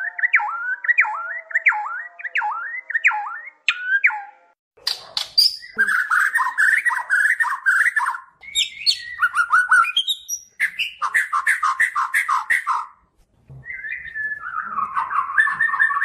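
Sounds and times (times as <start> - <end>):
bird singing whistles and chatters: 0.0 - 12.9, 13.6 - 16.0.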